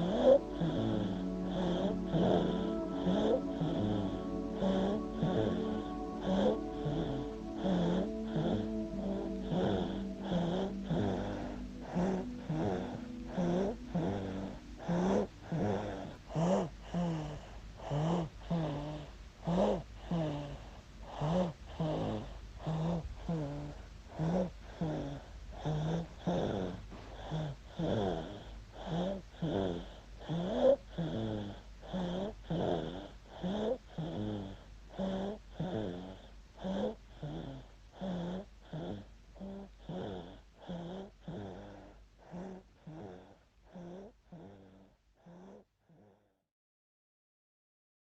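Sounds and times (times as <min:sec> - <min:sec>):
baby snoring: 0:00.0 - 0:46.2.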